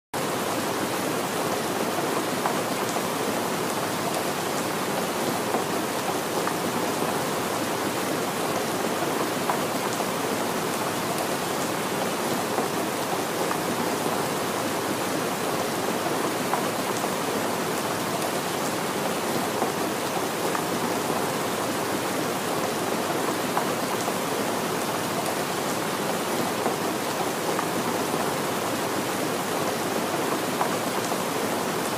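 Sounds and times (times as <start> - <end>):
steady rain hiss: 0.2 - 31.9.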